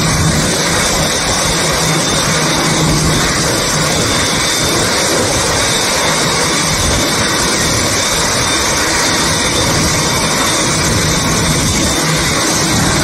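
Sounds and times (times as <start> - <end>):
high engine whine: 0.0 - 13.0
jet engine rush: 0.0 - 13.0.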